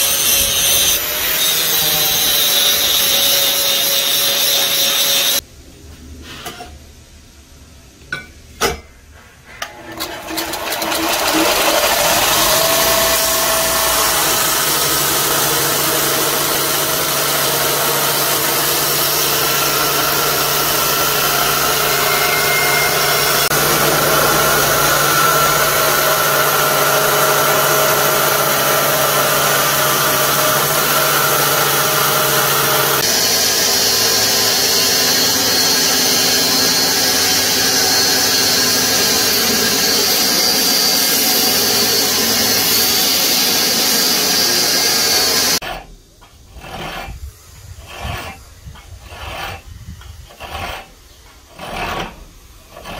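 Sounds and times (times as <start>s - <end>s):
belt grinder grinding steel: 0.0s - 5.4s, 9.7s - 52.9s.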